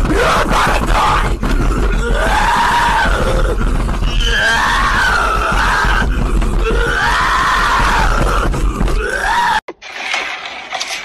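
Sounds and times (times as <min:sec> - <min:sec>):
man making raspy wailing noises: 0:00.0 - 0:09.6.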